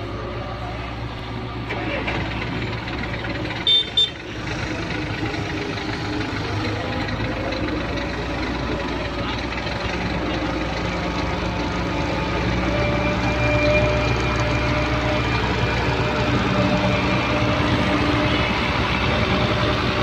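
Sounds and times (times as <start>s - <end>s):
excavator diesel engine: 0.0s - 20.0s.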